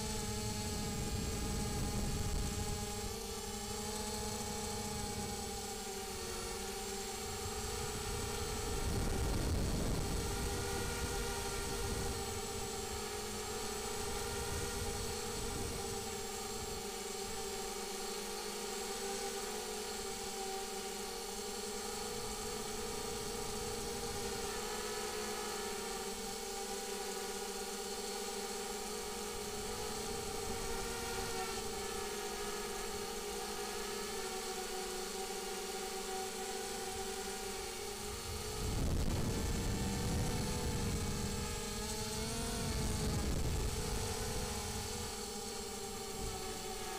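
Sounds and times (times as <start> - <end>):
drone propellers whining: 0.0 - 46.9.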